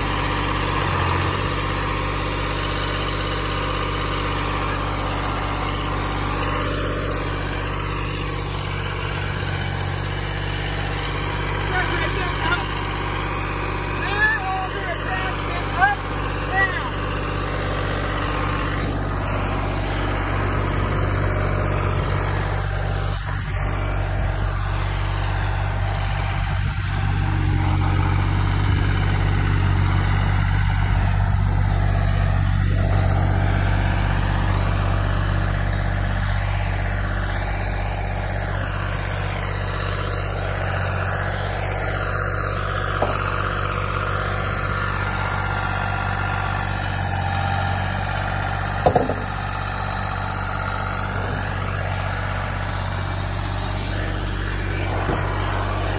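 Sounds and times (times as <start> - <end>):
trencher engine running: 0.0 - 55.9.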